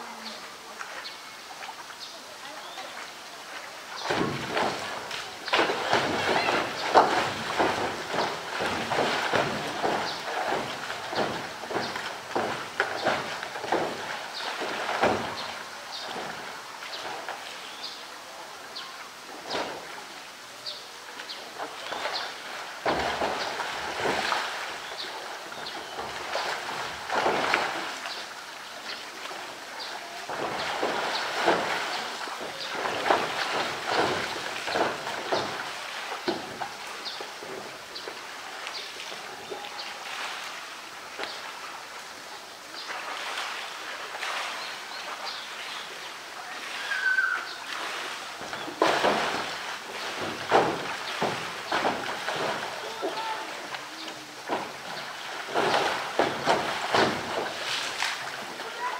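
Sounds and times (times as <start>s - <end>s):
water splashing and sloshing: 0.0s - 58.9s.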